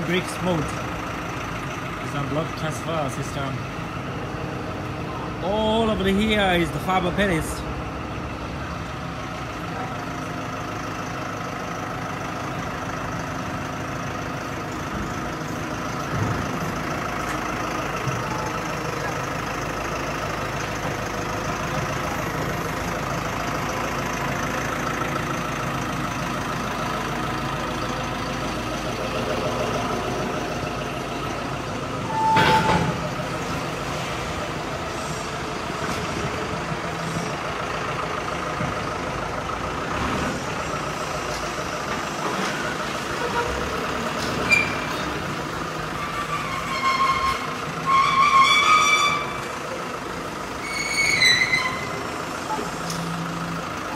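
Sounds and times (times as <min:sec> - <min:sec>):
engines and machinery humming: 0:00.0 - 0:53.9.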